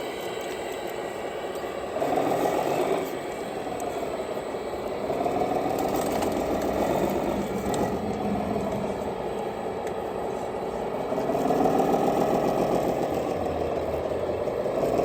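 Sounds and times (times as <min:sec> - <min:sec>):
model truck motor whining: 0:00.0 - 0:15.0.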